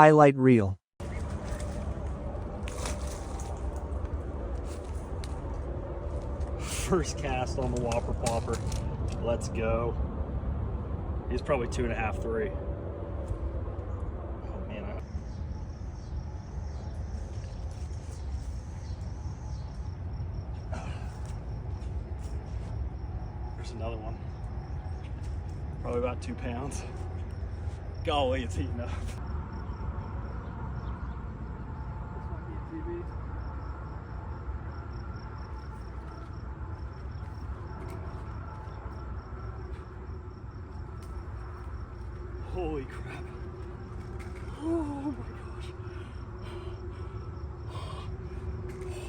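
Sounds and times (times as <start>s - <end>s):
insects trilling: 1.0s - 9.9s, 14.4s - 49.0s.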